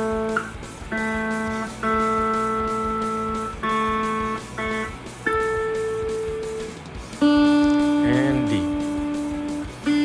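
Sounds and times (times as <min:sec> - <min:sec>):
guitar string plucked and ringing: 0:00.0 - 0:10.0.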